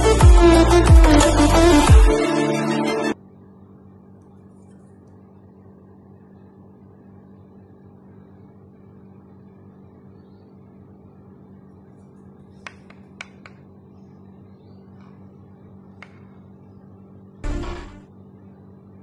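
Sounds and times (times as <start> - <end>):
low electrical hum: 3.1 - 19.0.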